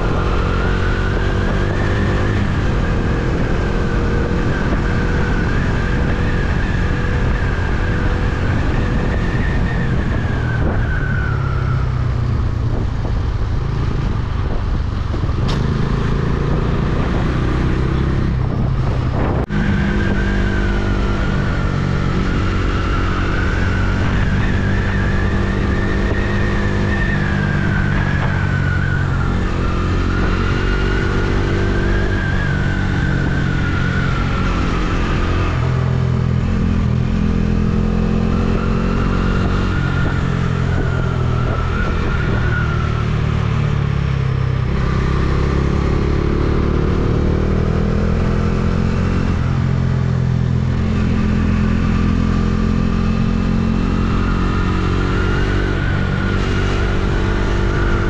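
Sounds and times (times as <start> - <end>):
motorcycle engine revving: 0.0 - 58.0
wind and road rush: 0.0 - 58.0.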